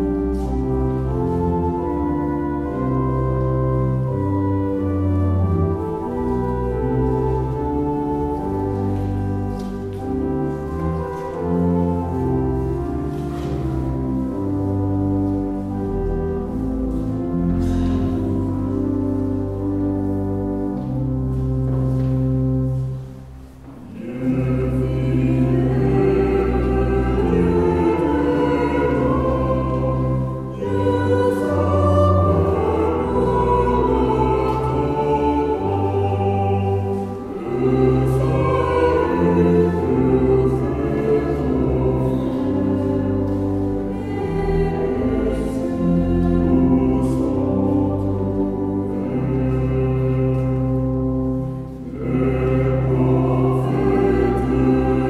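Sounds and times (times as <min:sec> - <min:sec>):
choir singing a hymn: 0:00.0 - 0:23.1, 0:23.7 - 0:55.0
instrumental accompaniment: 0:00.0 - 0:55.0.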